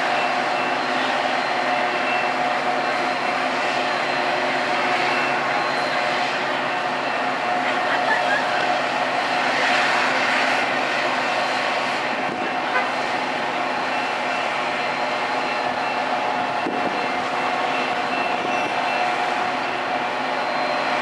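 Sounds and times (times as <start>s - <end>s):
faint steady whining tones: 0.0s - 21.0s
train rumble and rail noise: 0.0s - 21.0s.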